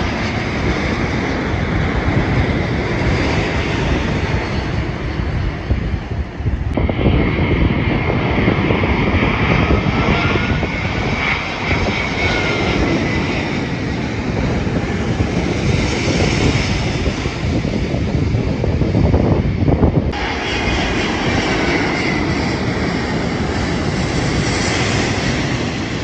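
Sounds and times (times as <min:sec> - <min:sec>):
jet engine rumble with whine: 0:00.0 - 0:26.0.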